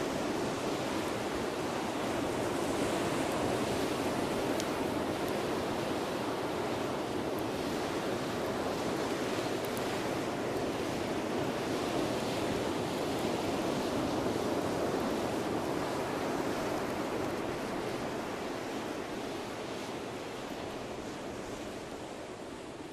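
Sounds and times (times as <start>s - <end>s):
bonfire crackles: 0.0s - 22.9s
surf rushing on beach: 0.0s - 22.9s.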